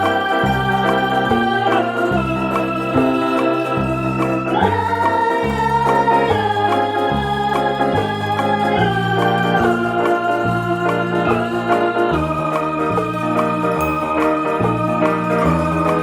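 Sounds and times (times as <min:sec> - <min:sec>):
electronic organ melody: 0:00.0 - 0:16.0
repeating bass line: 0:00.0 - 0:16.0.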